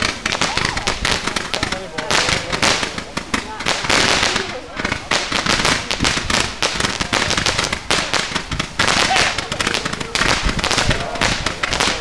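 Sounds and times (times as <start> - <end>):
fireworks crackling: 0.0 - 12.0
loud firework reports: 0.0 - 12.0.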